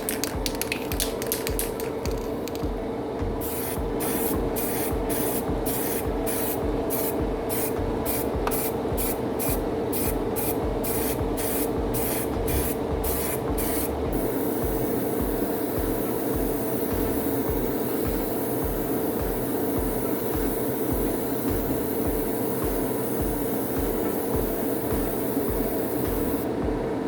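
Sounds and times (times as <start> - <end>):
steady hum: 0.0 - 27.0
paint spray hissing: 3.4 - 26.5.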